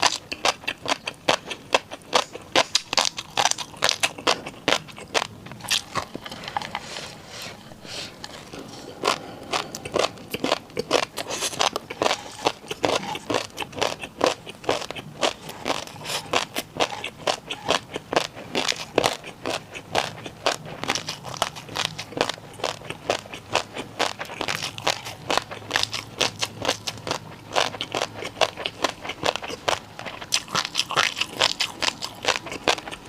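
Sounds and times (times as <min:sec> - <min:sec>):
crunchy food chewing: 0:00.0 - 0:33.0.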